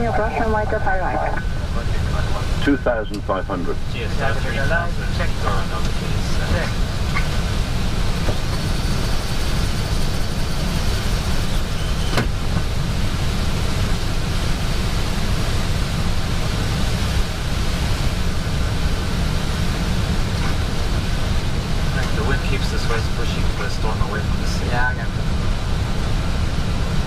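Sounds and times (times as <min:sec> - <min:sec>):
airflow and jet engine rush: 0:00.0 - 0:27.0.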